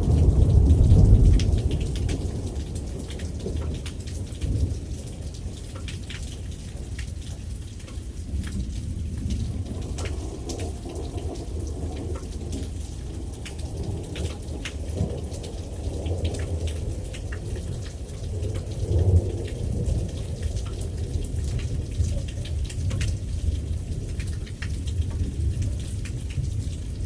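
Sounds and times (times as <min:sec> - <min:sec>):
low rumble of thunder: 0:00.0 - 0:27.0
raindrops clicking: 0:00.0 - 0:27.0
steady rain: 0:00.0 - 0:27.0.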